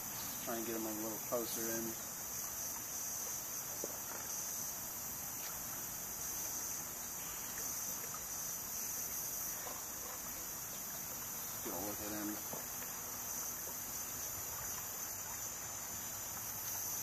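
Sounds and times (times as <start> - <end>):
high-pitched insect chorus: 0.0 - 17.0
water washing: 0.0 - 17.0.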